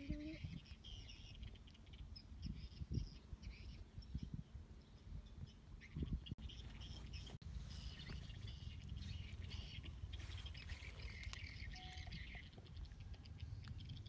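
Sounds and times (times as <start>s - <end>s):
birds chirping: 0.0s - 14.0s
low steady outdoor rumble: 0.0s - 14.0s.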